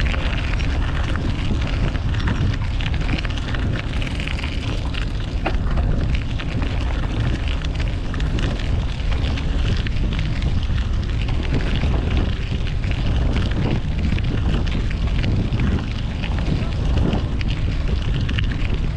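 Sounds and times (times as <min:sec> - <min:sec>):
small crackles: 0:00.0 - 0:18.9
wind rumbling on microphone: 0:00.0 - 0:18.9.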